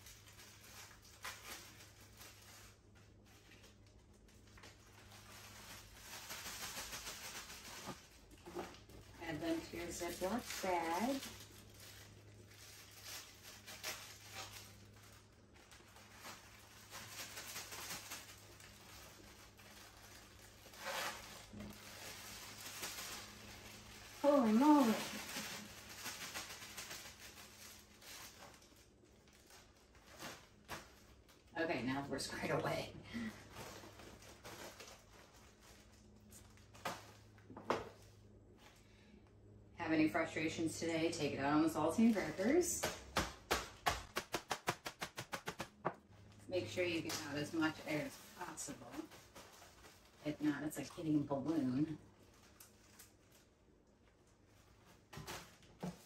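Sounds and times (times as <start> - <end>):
plastic crinkling and rustling: 0.0 - 38.8, 41.8 - 56.0.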